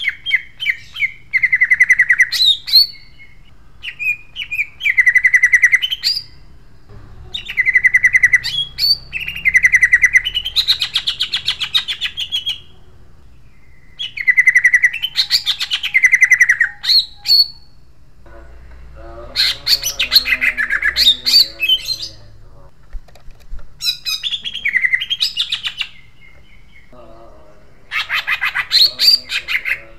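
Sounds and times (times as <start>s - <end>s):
bird singing harsh rolling trills: 0.0s - 22.7s, 23.8s - 29.9s.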